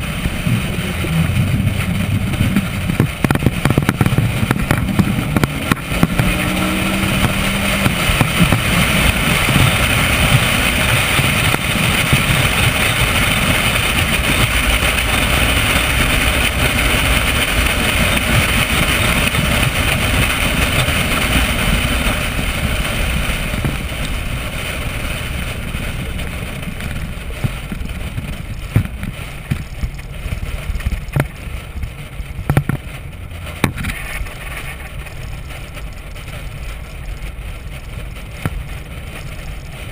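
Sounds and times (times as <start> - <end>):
sports car engine at speed: 0.0 - 39.9
wind and road noise: 0.0 - 39.9.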